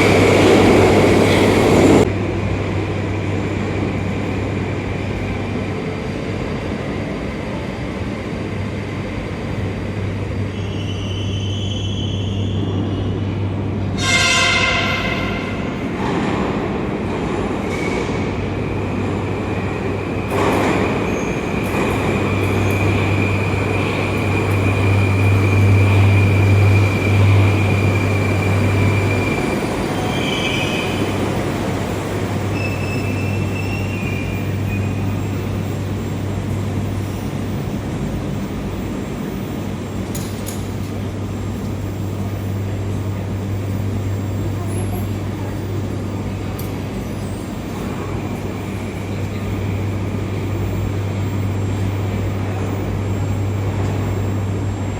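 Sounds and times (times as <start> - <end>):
high train whine: 0.0 - 54.9
train rumble and hum: 0.0 - 54.9.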